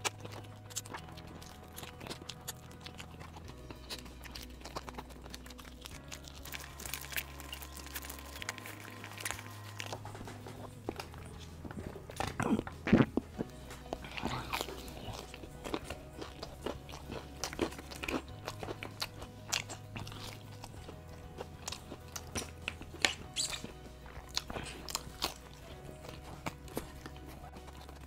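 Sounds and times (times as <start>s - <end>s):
crunchy chewing: 0.0s - 28.0s
quiet background music: 0.0s - 28.0s.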